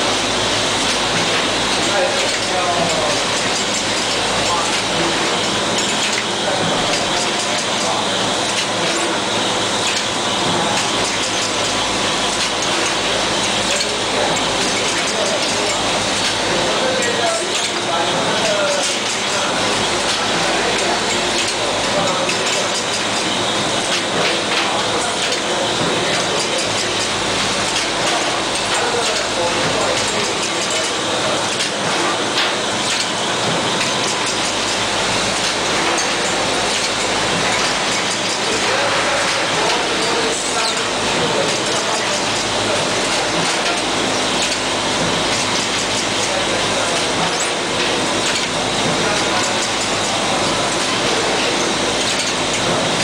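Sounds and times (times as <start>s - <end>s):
bottling machine running: 0.0s - 53.0s.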